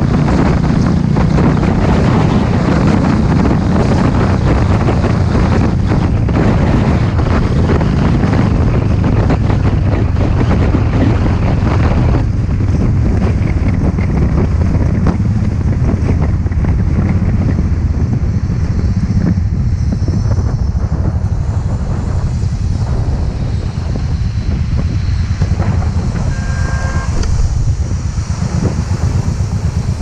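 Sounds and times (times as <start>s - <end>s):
motorcycle engine running: 0.0s - 30.0s
wind rushing over microphone: 0.0s - 30.0s.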